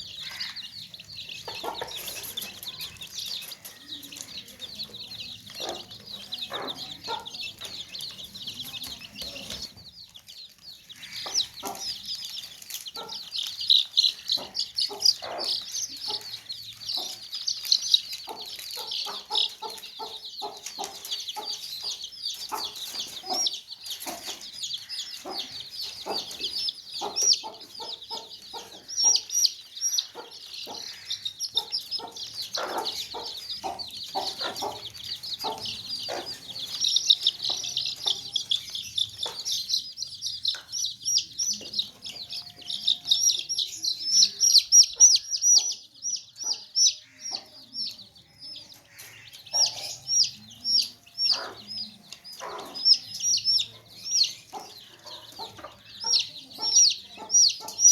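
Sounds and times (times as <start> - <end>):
baby chicks chirping: 0.0 - 57.9.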